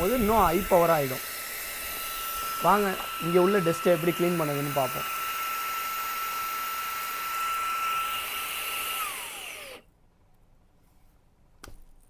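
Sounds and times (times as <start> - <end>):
handheld vacuum motor whining: 0.0 - 9.8.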